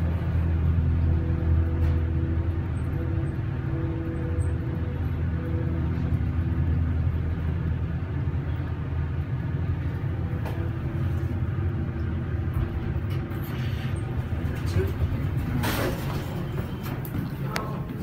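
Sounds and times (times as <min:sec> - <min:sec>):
elevator pump motor humming: 0:00.0 - 0:18.0.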